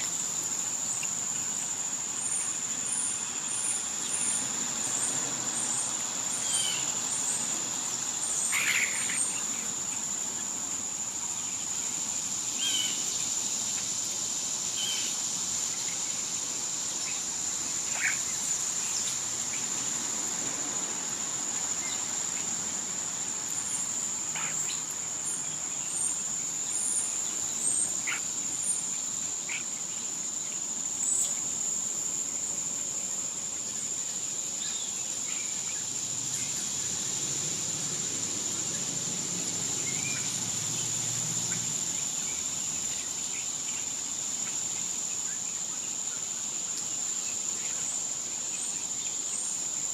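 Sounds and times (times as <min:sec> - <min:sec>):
insect chorus drone: 0:00.0 - 0:49.9.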